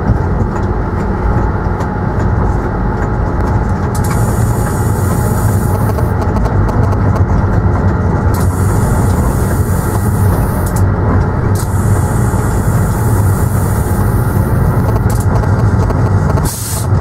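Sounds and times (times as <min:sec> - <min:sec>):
moving train rumble: 0:00.0 - 0:17.0.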